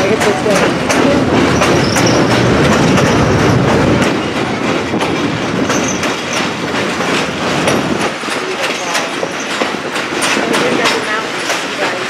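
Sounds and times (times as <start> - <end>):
train rumble on bridge: 0.0 - 12.0
train wheels clacking over rail joints: 0.0 - 12.0.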